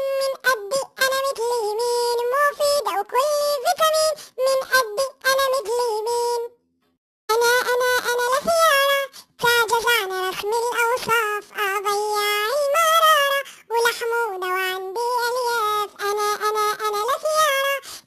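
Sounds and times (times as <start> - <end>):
high-pitched cartoon voice singing: 0.0 - 6.5, 7.3 - 17.8.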